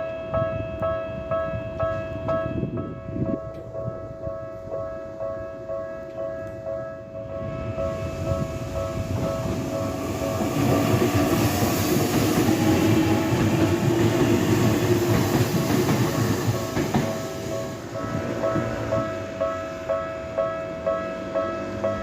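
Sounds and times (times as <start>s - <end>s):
crossing warning bell ringing: 0.0s - 11.3s, 12.0s - 22.0s
train wheels rumbling on rails: 0.3s - 22.0s.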